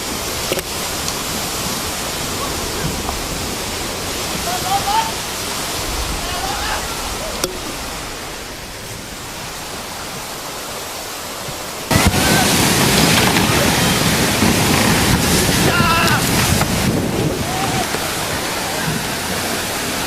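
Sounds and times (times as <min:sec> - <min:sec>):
floodwater rushing: 0:00.0 - 0:20.0
distant voices shouting: 0:01.4 - 0:20.0.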